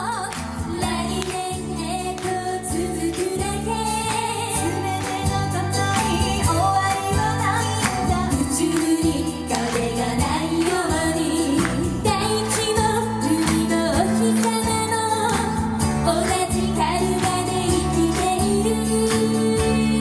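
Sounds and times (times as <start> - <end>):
instrumental backing with beat: 0.0 - 20.0
women singing pop song: 0.0 - 20.0.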